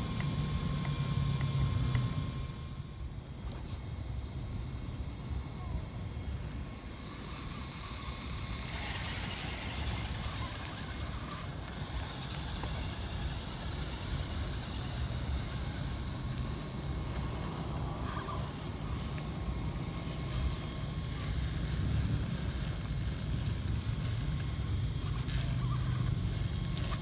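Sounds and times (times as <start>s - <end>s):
electric motor whine: 0.0s - 27.0s
steady low rumble: 0.0s - 27.0s.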